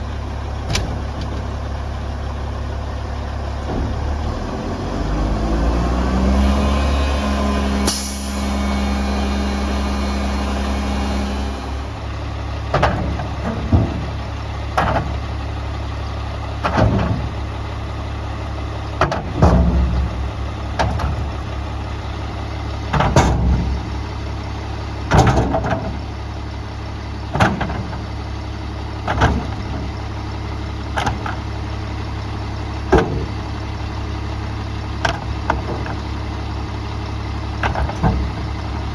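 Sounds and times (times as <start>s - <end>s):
garbage truck engine: 0.0s - 38.9s.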